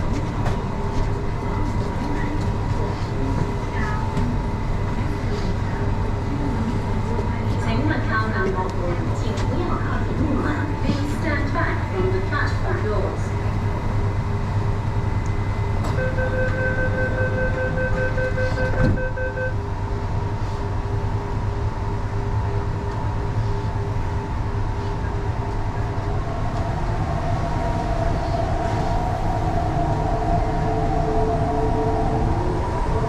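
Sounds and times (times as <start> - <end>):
train wheels rumbling on track: 0.0 - 19.1, 19.8 - 33.0.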